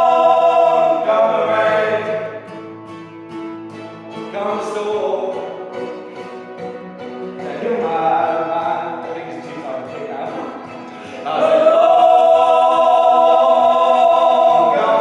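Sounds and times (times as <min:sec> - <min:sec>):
song with sung vocals: 0:00.0 - 0:02.7, 0:04.2 - 0:06.1, 0:07.0 - 0:15.0.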